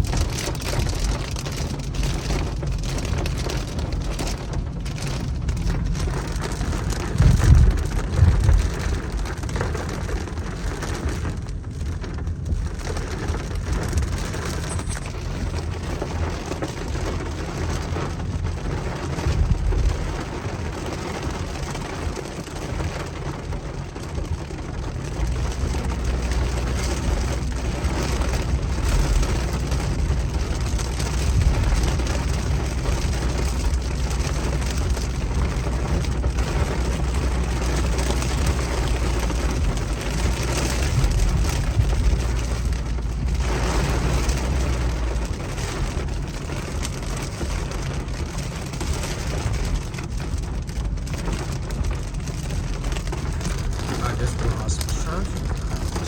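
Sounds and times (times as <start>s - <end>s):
low rumble: 0.0s - 56.0s
steady rain falling: 0.0s - 56.0s.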